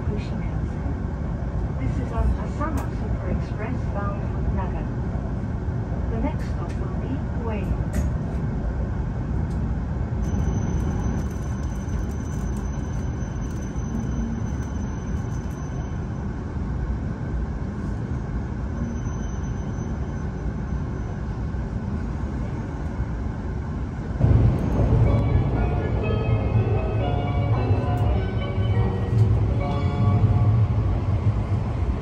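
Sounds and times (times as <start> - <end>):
train cabin low rumble: 0.0 - 32.0.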